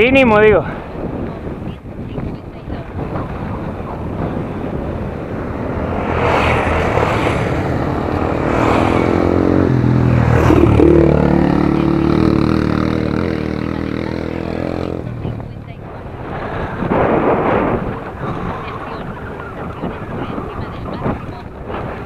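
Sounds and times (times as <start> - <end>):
motorcycle passing: 2.6 - 22.0.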